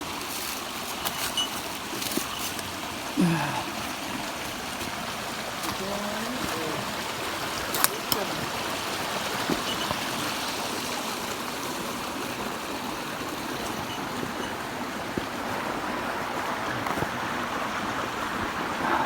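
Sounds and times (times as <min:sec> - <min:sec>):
water flowing: 0:00.0 - 0:19.0.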